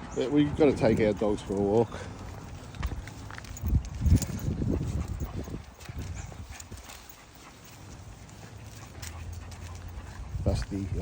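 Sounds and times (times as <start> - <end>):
dogs' paws tapping: 0.0 - 11.0
footsteps on footpath: 0.1 - 11.0.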